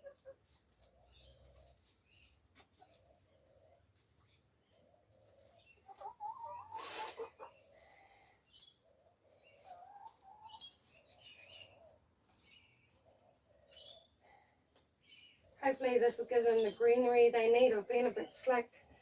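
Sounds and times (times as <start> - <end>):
chickens clucking and chirping: 0.0 - 19.0.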